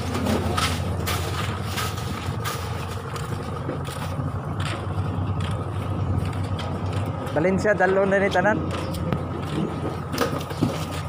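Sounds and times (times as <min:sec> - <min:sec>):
knocks and clatters: 0:00.0 - 0:11.0
truck engine idling: 0:00.0 - 0:11.0.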